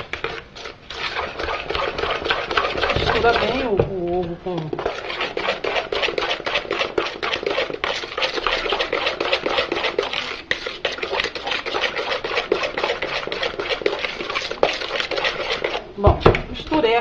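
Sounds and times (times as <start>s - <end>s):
batter beaten in bowl: 0.0s - 17.0s.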